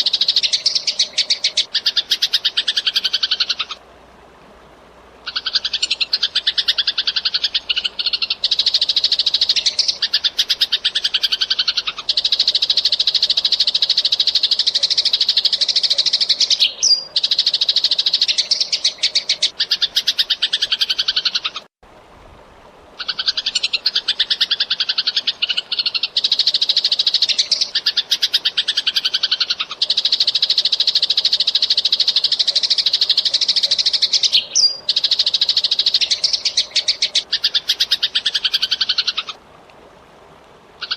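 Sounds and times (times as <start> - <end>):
sparrow chirping: 0.0 - 3.8, 5.3 - 21.6, 23.1 - 39.4.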